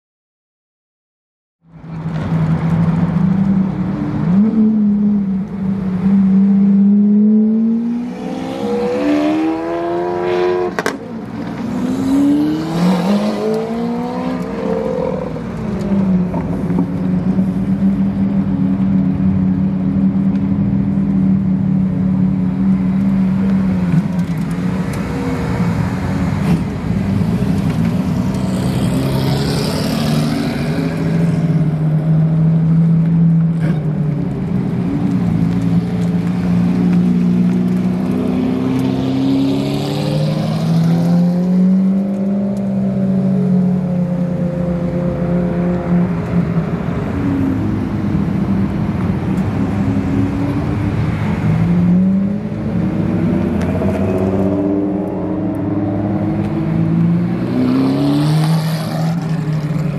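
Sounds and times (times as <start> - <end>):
sports car engines revving: 1.8 - 59.9.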